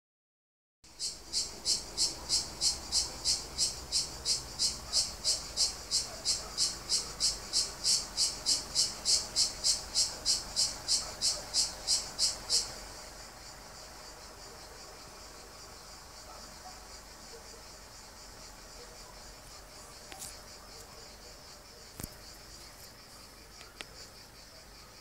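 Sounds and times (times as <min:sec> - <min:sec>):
insect chirping: 0:00.9 - 0:25.0.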